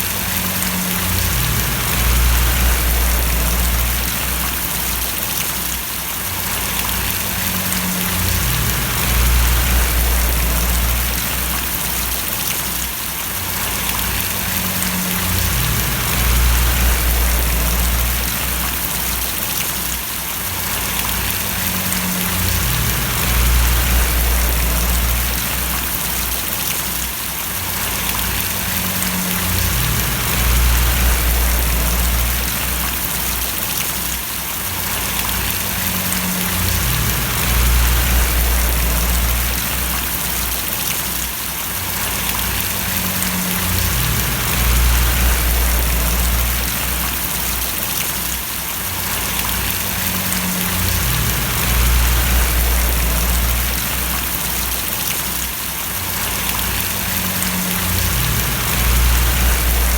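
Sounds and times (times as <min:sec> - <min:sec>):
low rumble: 0:00.0 - 0:05.2, 0:06.7 - 0:12.4, 0:13.6 - 0:19.3, 0:20.9 - 0:26.6, 0:27.9 - 0:33.6, 0:35.2 - 0:40.8, 0:42.1 - 0:47.8, 0:49.4 - 0:55.0, 0:56.4 - 0:59.9
rain falling and splashing: 0:00.0 - 0:59.9.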